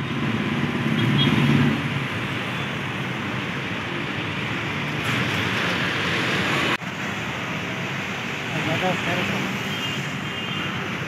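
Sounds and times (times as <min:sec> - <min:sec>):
city road traffic: 0:00.0 - 0:11.0.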